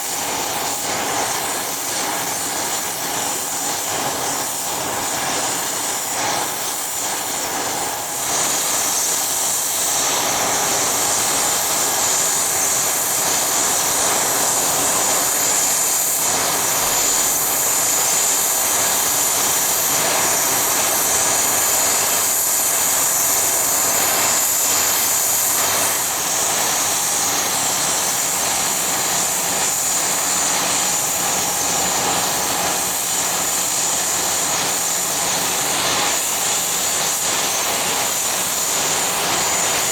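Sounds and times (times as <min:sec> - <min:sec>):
jet engines rushing and whining: 0:00.0 - 0:39.9.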